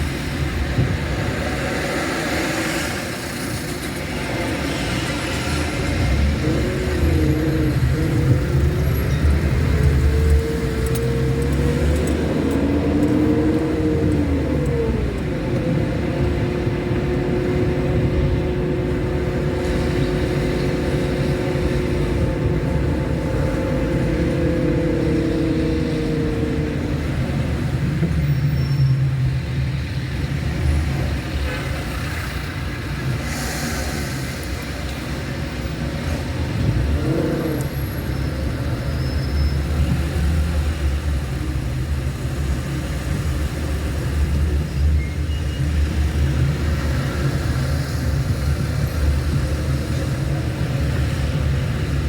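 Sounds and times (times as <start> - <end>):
car engine hum: 0.0 - 52.0
road rumble: 0.0 - 52.0.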